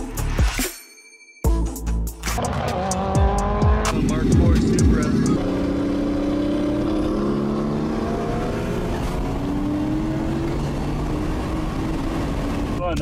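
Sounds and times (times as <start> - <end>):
car engine accelerating: 2.4 - 13.0.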